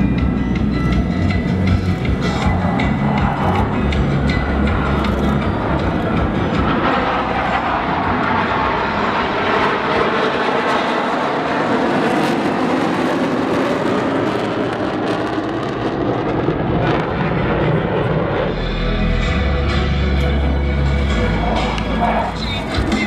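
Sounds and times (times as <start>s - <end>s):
airplane engine noise: 0.0s - 23.0s.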